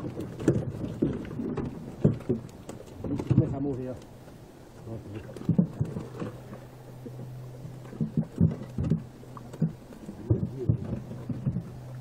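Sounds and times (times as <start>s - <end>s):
fish flopping thumps: 0.0s - 12.0s
steady low hum: 0.0s - 12.0s.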